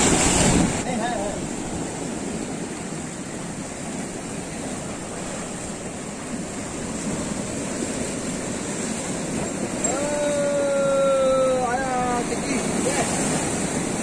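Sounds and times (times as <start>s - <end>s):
surf breaking over rocks: 0.0s - 14.0s.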